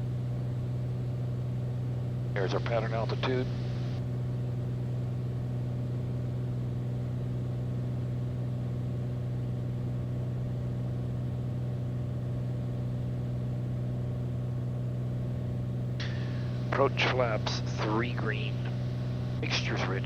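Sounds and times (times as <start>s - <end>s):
airplane engine and propeller drone: 0.0s - 20.0s.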